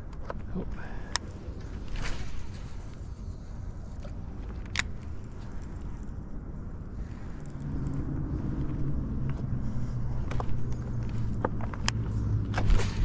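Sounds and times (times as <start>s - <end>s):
low motor hum: 0.0s - 13.0s
low outdoor rumble: 0.0s - 13.0s.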